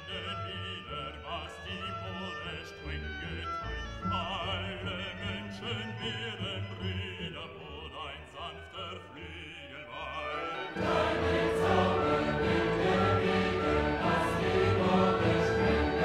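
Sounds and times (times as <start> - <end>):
classical music: 0.0 - 16.0
operatic voice singing: 0.0 - 16.0.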